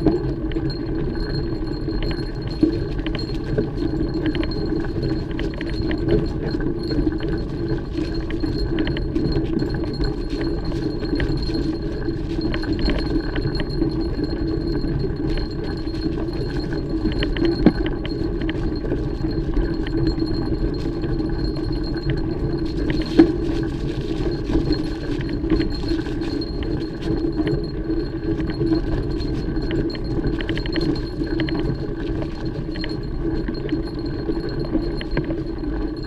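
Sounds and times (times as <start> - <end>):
bike clinking and rattling: 0.0 - 36.0.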